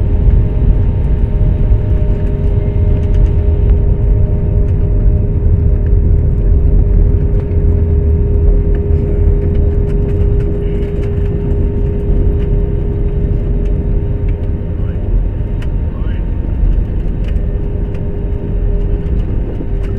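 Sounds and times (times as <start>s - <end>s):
jet engine rumble: 0.0s - 19.9s
steady whine: 0.0s - 19.9s.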